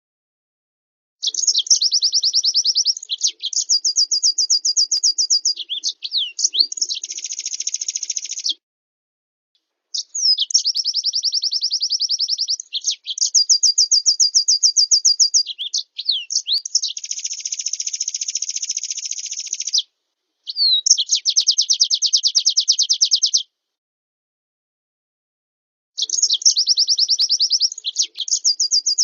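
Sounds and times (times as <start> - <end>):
bird chirps: 1.2 - 8.6, 9.9 - 23.5, 26.0 - 29.0
songbird high-pitched trills: 1.2 - 8.6, 10.0 - 19.9, 20.5 - 23.5, 26.0 - 29.0.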